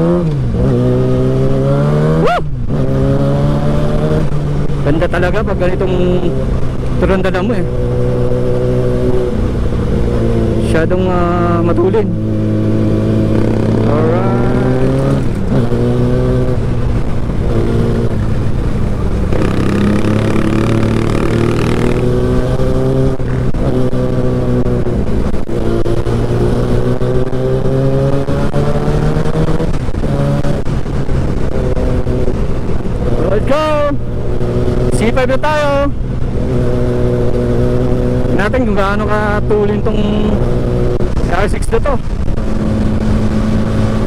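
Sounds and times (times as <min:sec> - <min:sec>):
low wind rumble: 0:00.0 - 0:44.0
motorcycle engine accelerating: 0:00.0 - 0:44.0.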